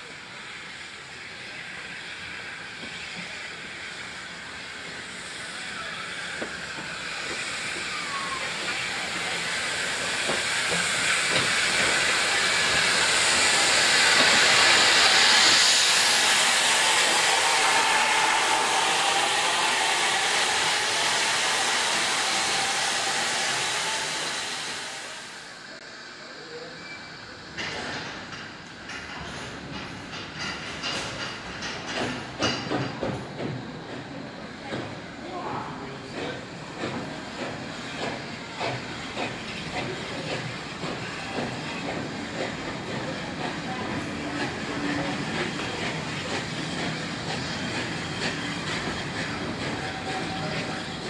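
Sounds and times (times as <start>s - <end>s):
steam locomotive hissing: 0.0s - 51.0s.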